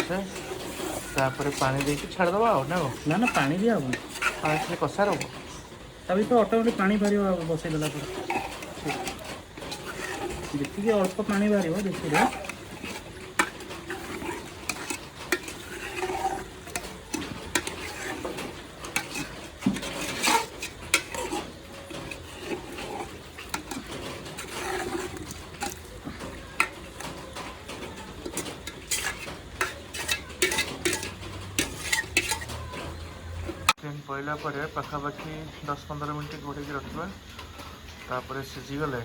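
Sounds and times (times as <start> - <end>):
spoon scraping a pot: 0.0 - 33.8
low sizzle: 0.0 - 39.0.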